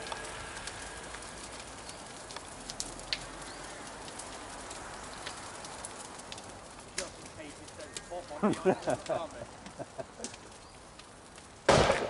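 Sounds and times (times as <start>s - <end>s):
car fire crackling: 0.0s - 12.0s
small pops and snaps: 0.0s - 12.0s.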